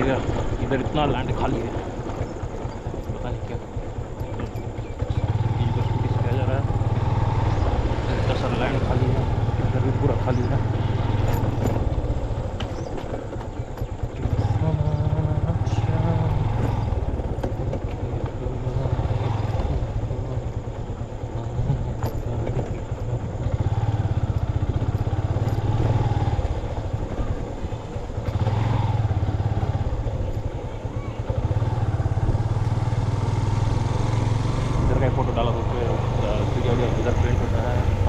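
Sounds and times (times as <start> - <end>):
motorbike engine running: 0.0 - 38.0.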